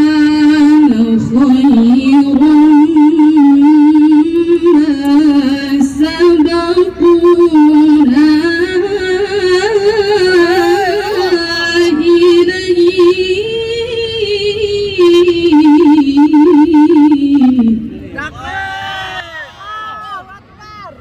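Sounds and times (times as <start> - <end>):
woman reciting melodically: 0.0 - 18.0.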